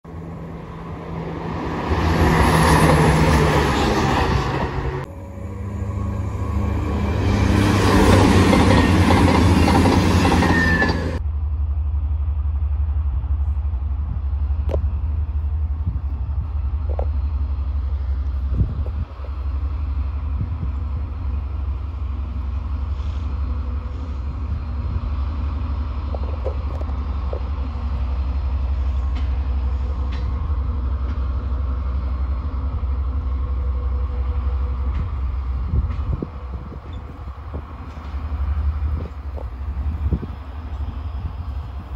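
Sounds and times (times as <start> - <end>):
diesel locomotive engine drone: 0.0 - 41.9
diesel train passing: 0.0 - 41.9.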